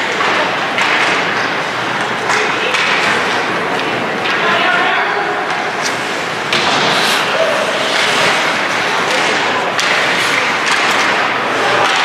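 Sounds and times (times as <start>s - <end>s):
hockey sticks and pucks clicking: 0.0s - 4.7s, 5.4s - 12.0s
crowd voices in arena: 0.0s - 12.0s.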